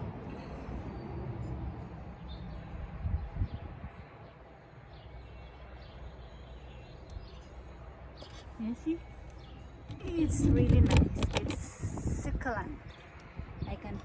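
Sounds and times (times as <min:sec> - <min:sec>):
outdoor background rumble: 0:00.0 - 0:14.0.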